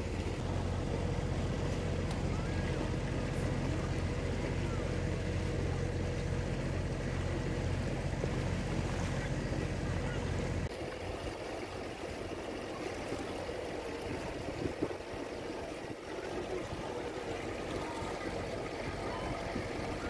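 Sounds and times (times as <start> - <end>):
boat engine running: 0.0 - 20.0
water lapping and sloshing: 0.0 - 20.0
water rushing along hull: 0.0 - 20.0.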